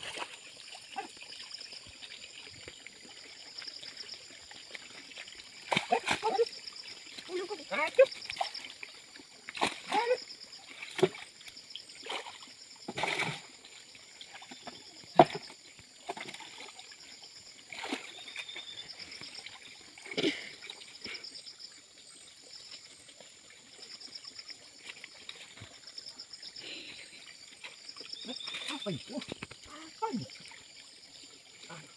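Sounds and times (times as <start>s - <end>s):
water splashing and sloshing: 0.0s - 31.9s.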